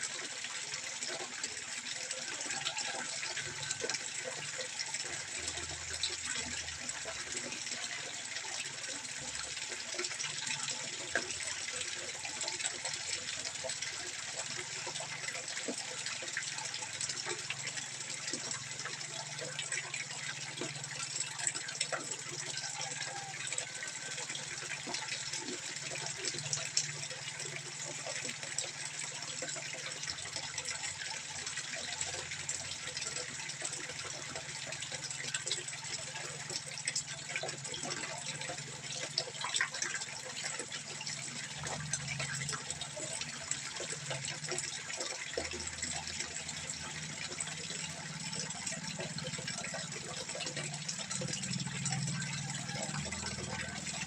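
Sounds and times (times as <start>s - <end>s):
water trickling into pond: 0.0s - 54.0s.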